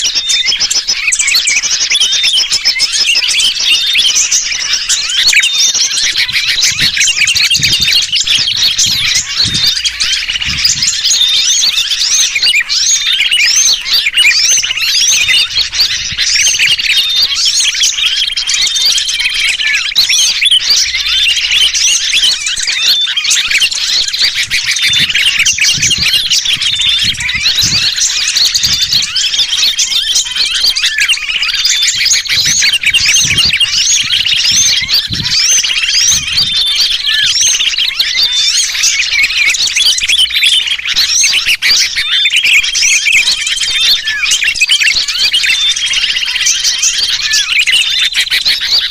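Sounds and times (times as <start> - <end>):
bird distress calls: 0.0 - 48.9
small birds chirping and chattering: 0.0 - 48.9.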